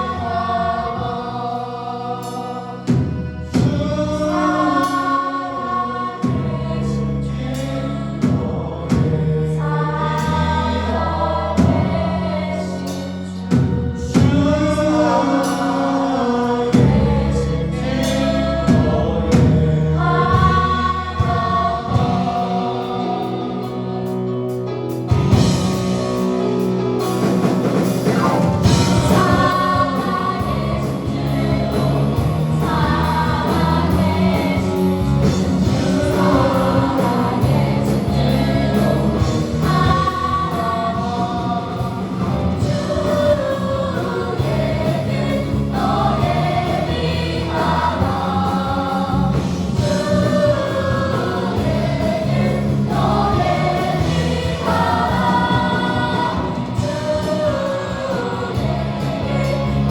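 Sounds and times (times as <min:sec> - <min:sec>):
choir singing worship song: 0:00.0 - 0:59.9
instrumental accompaniment: 0:00.0 - 0:59.9.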